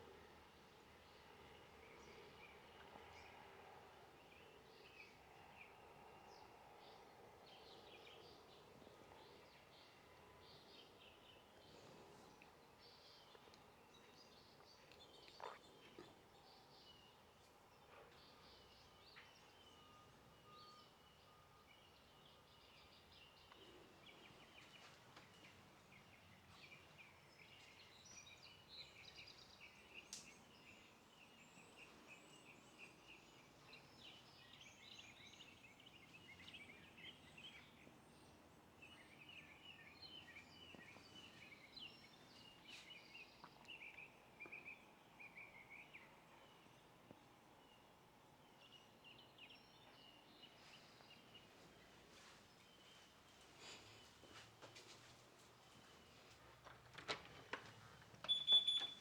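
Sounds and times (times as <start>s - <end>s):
small birds chirping: 7.5s - 56.6s, 57.4s - 59.0s.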